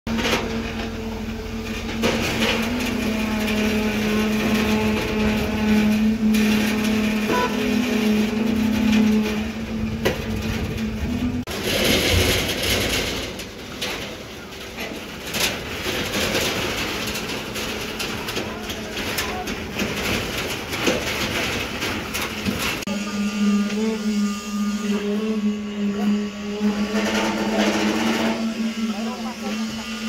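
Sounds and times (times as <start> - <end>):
machinery humming: 0.1 - 30.0.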